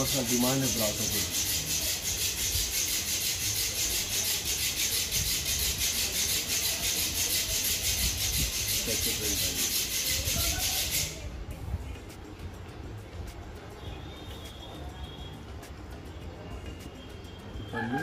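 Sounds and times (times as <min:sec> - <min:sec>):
rhythmic rasping hiss: 0:00.0 - 0:18.0.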